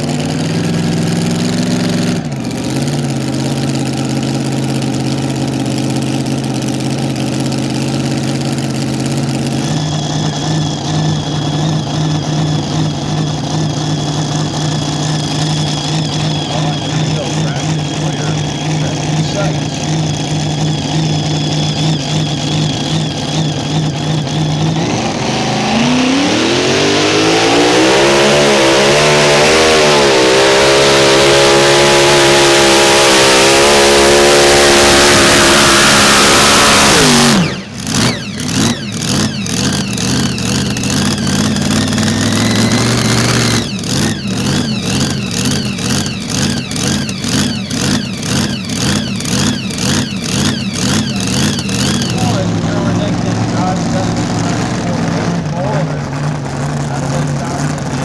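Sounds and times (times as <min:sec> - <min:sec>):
tractor engine revving: 0:00.0 - 0:58.0.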